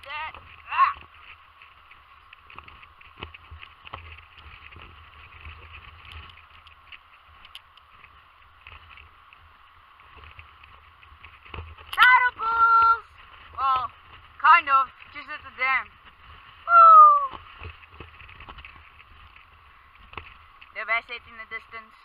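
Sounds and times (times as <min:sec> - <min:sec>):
low wind rumble: 0:00.0 - 0:22.0
steady hiss: 0:00.0 - 0:22.0.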